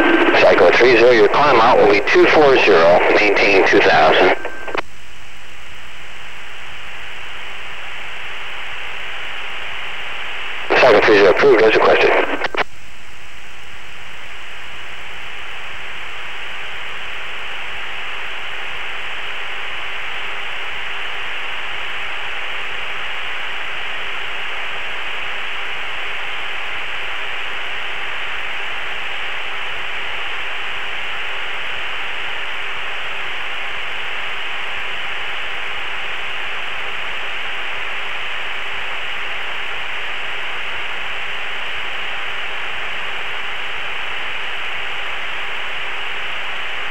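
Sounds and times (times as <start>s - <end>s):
radio static hiss: 0.0s - 46.9s.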